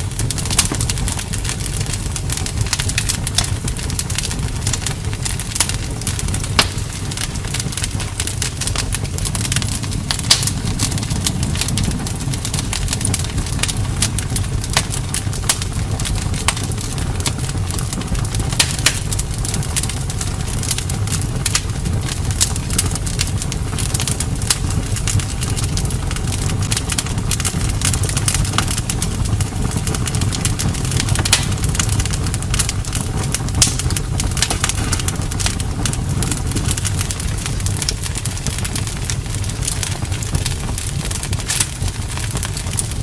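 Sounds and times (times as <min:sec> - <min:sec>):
burning wood crackling and popping: 0:00.0 - 0:43.0
rumble of flames: 0:00.0 - 0:43.0.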